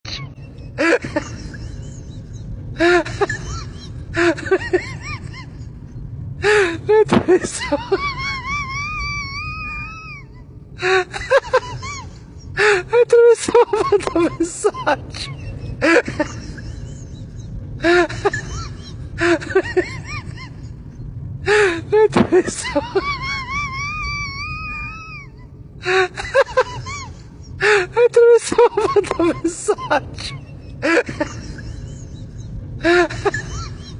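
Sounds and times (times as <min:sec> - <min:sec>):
subway car rumble: 0:00.1 - 0:33.9.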